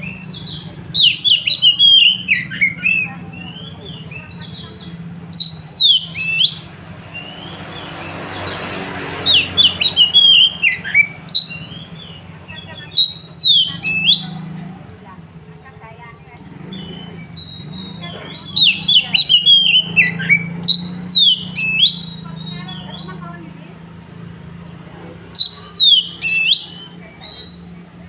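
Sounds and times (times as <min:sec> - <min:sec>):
bird singing: 0:00.0 - 0:14.6, 0:16.4 - 0:28.0.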